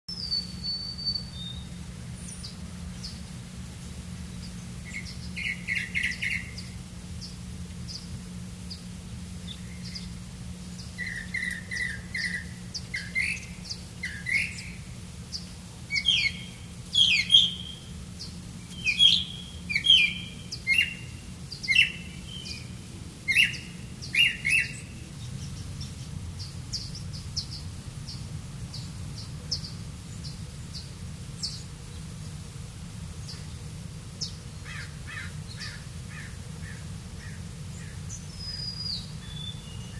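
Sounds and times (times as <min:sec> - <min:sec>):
birds chirping: 0:00.1 - 0:03.4, 0:04.1 - 0:32.5, 0:33.1 - 0:39.9
steady low hum: 0:00.1 - 0:39.9
high ticking bird calls: 0:04.4 - 0:32.1, 0:34.2 - 0:39.9.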